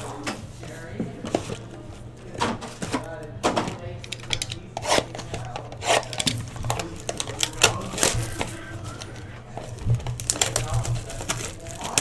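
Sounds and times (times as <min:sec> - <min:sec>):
trading cards handled: 0:00.0 - 0:12.0.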